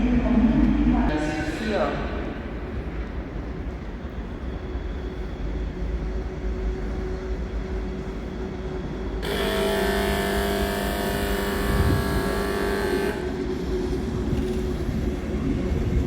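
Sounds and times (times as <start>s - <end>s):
train rumbling: 0.0s - 16.0s
train whine: 0.0s - 16.0s.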